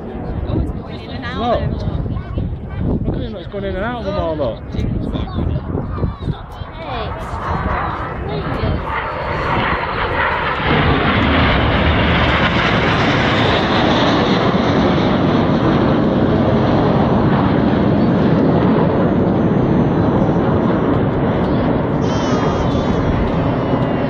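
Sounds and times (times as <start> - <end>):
jets passing overhead: 0.0 - 24.0.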